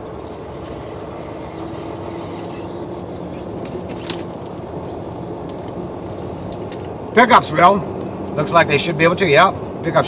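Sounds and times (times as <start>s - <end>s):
engine and road drone: 0.0s - 10.0s.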